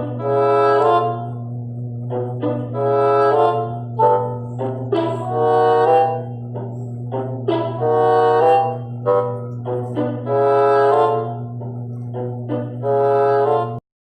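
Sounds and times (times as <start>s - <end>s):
brass music cue: 0.0s - 13.8s
low hum: 0.0s - 13.8s.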